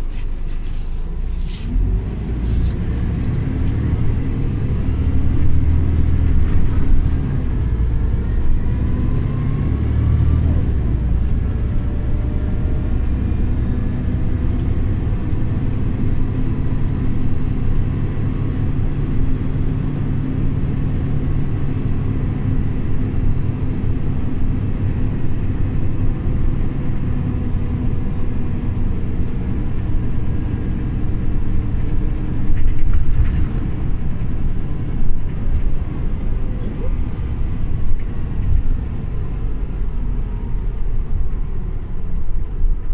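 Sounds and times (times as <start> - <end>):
bus engine running: 0.0 - 42.9
road noise: 0.0 - 42.9.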